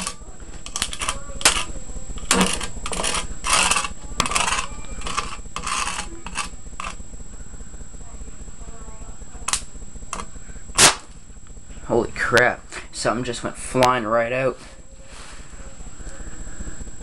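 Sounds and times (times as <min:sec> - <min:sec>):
electric arcs crackling and snapping: 0:00.0 - 0:14.5.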